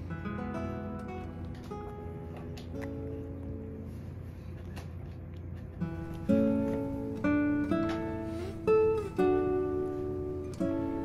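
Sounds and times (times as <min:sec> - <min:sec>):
plucked acoustic guitar: 0:00.0 - 0:04.0, 0:05.7 - 0:11.0.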